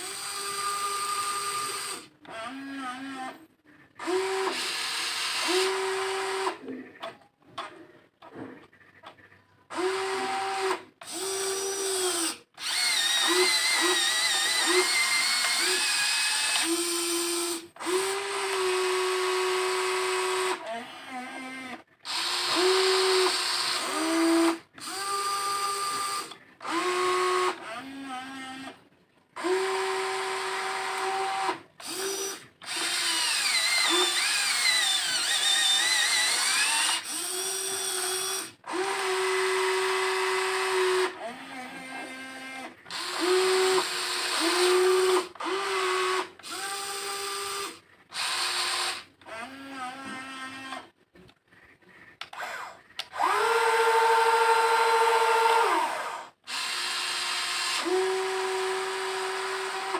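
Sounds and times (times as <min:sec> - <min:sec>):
toy excavator electric motors whining: 0:00.0 - 0:07.8, 0:08.6 - 0:28.8, 0:29.4 - 0:59.9.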